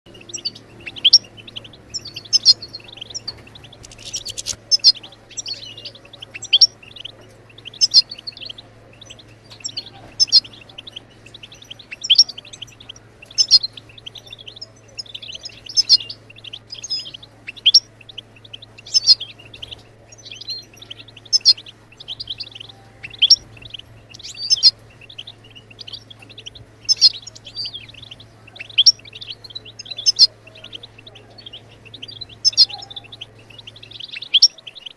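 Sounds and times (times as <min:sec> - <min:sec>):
finch twittering chirps: 0:00.1 - 0:34.9.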